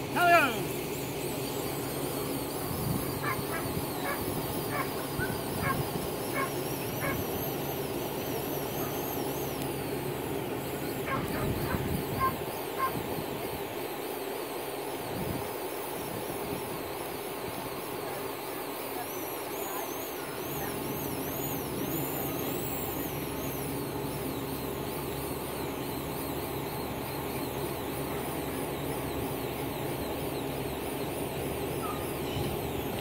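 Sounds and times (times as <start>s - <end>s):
motor-like drone: 0.0s - 33.0s.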